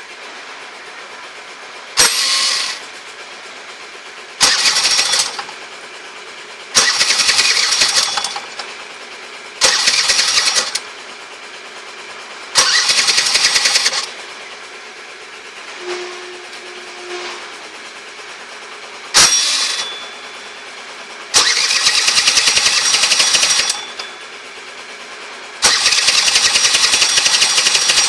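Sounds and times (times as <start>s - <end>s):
rattly metallic engine noise: 0.0s - 28.0s
scooter engine running: 0.0s - 28.0s.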